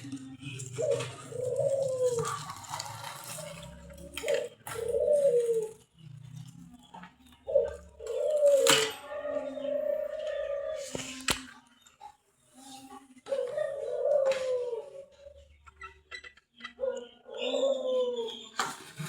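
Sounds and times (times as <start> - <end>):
bird cooing: 0.0 - 16.0, 16.6 - 18.6.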